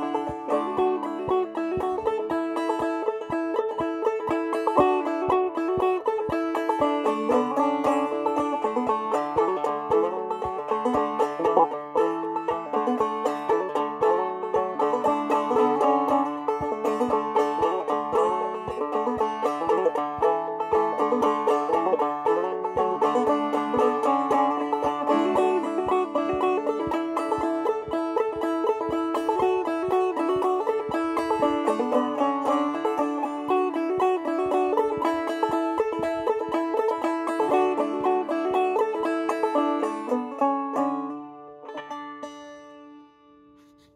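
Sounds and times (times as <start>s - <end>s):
banjo playing old-time tune: 0.0s - 43.9s.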